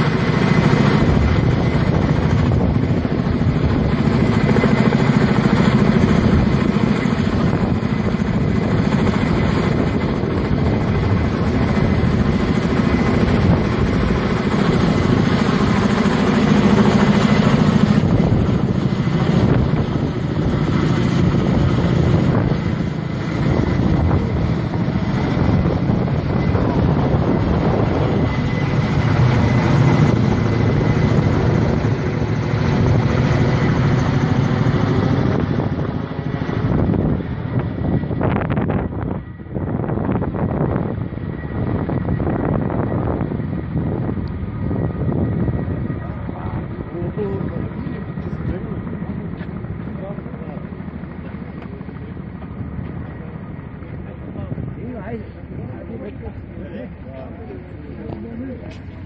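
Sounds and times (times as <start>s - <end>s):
helicopter rotors and turbine engines: 0.0s - 59.0s.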